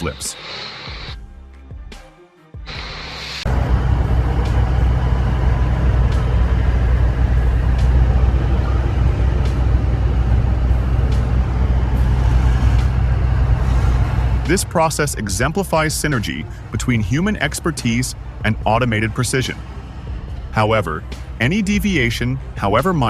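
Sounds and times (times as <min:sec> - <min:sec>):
heavy vehicle engine rumbling: 0:00.0 - 0:01.2, 0:02.7 - 0:23.0.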